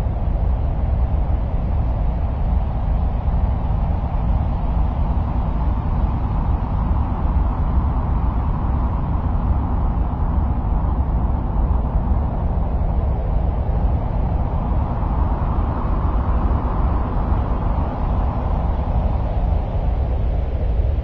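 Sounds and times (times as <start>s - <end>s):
steady deep ambient noise: 0.0s - 21.0s.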